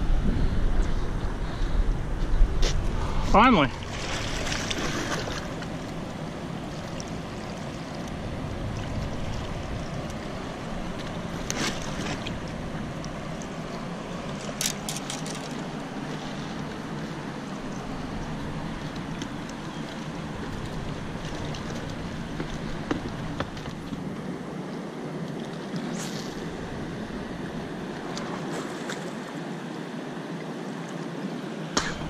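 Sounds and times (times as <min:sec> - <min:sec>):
water noise: 0:00.0 - 0:32.0
wind: 0:00.0 - 0:32.0.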